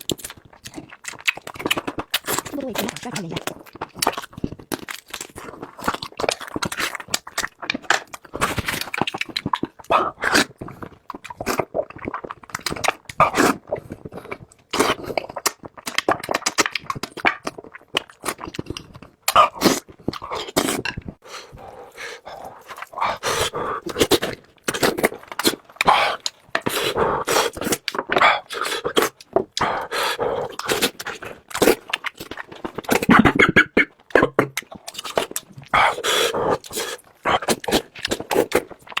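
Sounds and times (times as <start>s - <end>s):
wet chewing and smacking: 0.0s - 39.0s.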